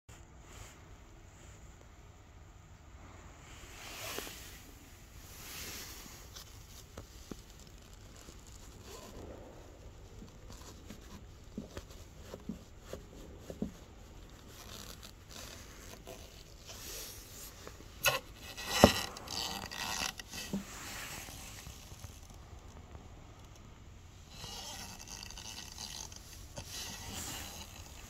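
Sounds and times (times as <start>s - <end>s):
rustling and scraping: 3.0s - 28.0s.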